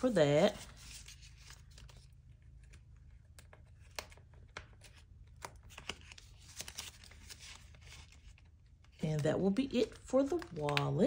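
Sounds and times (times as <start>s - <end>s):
paper money rustling and clicking: 0.0s - 11.0s.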